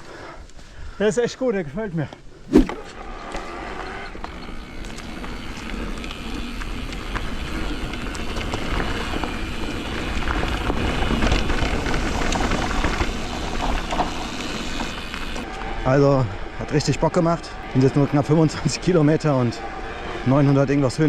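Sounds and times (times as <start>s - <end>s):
bike tyres on dirt trail: 2.5s - 21.0s.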